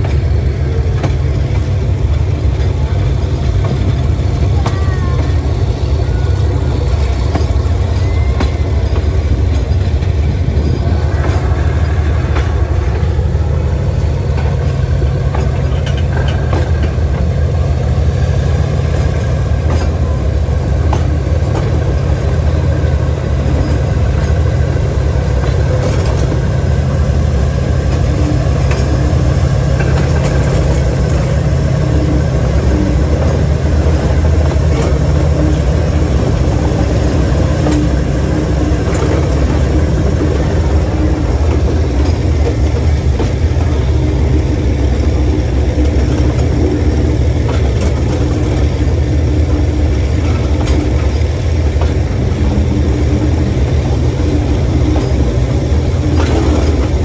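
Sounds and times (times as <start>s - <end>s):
locomotive engine rumble: 0.0s - 57.0s.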